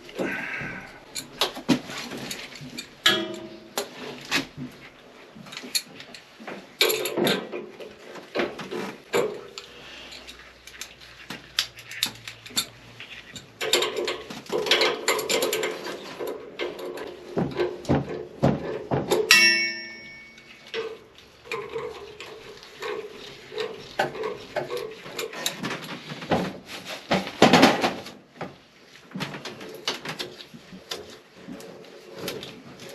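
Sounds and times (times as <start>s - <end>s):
clanks of tools and metal parts: 0.1s - 32.9s.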